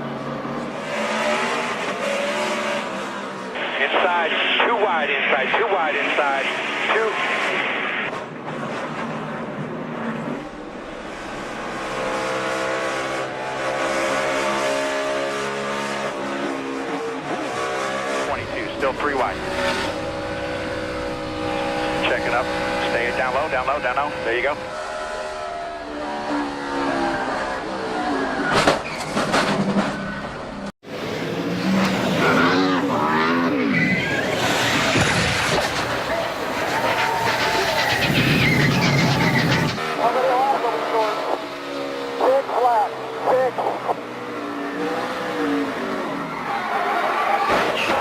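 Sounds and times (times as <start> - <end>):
race car engine at high revs: 0.0 - 48.0.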